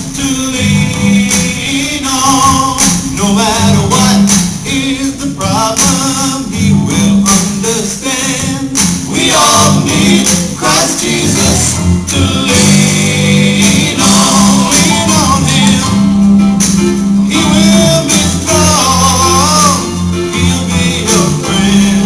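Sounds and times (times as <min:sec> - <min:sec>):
gospel singing over a beat: 0:00.0 - 0:22.0.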